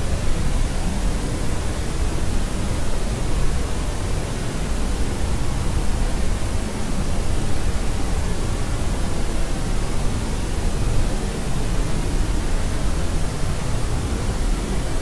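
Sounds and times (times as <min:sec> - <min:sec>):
white noise rushing hiss: 0:00.0 - 0:15.0.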